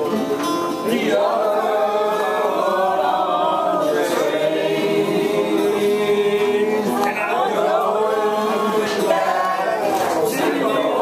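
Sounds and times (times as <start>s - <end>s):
group singing in unison: 0.0s - 11.0s
strummed acoustic guitar: 0.0s - 11.0s.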